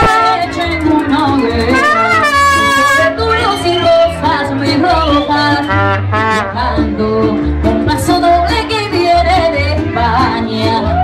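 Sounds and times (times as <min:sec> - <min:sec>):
strummed acoustic guitar: 0:00.0 - 0:11.0
woman singing into a microphone: 0:00.0 - 0:11.0.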